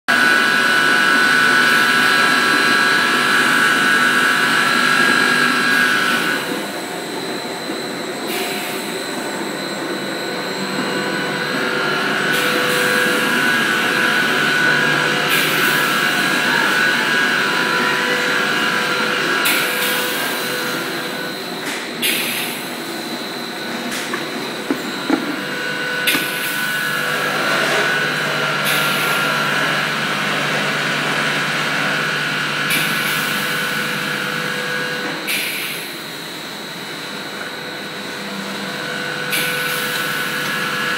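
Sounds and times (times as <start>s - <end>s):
machine hum with high whine: 0.1s - 40.9s.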